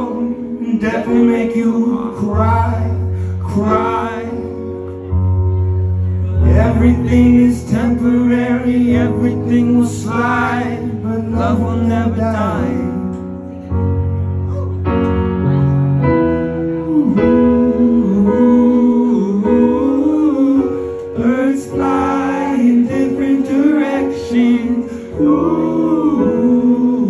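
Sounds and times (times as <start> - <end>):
man singing: 0.0 - 5.2, 5.8 - 13.5, 16.6 - 27.0
piano chords: 0.0 - 27.0.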